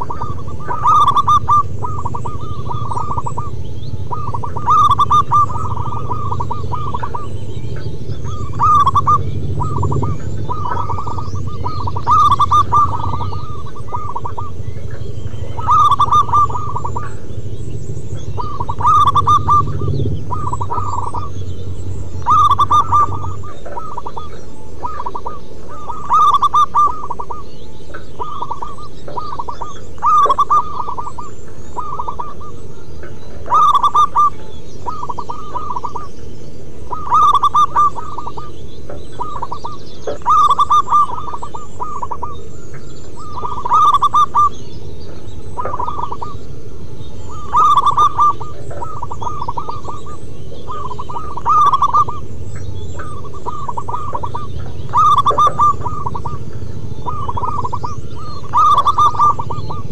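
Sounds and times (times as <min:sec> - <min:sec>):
doves cooing: 0:00.0 - 0:59.9
low background noise: 0:00.0 - 0:59.9.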